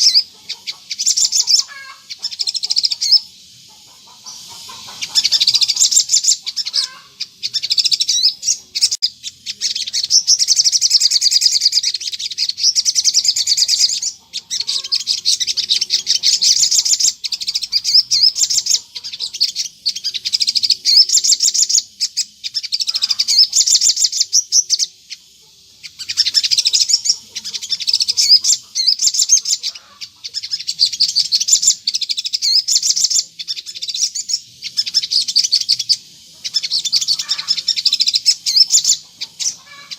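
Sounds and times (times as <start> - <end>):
bird twittering: 0.0 - 39.9.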